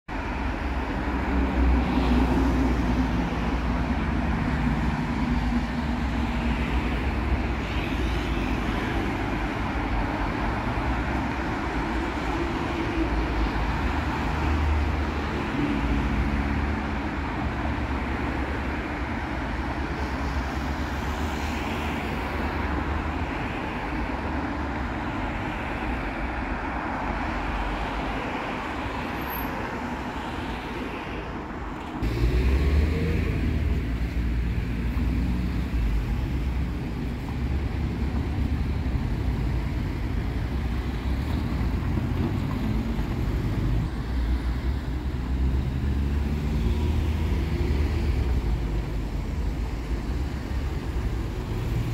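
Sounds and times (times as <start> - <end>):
cars driving past: 0.1 - 51.9.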